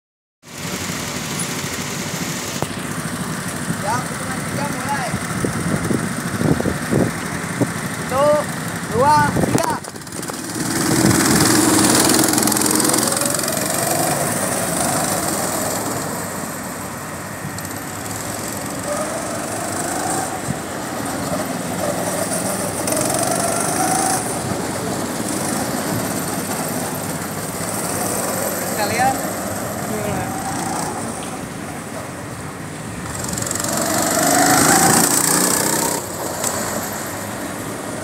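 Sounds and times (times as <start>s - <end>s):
go-kart engines racing: 0.5s - 38.0s.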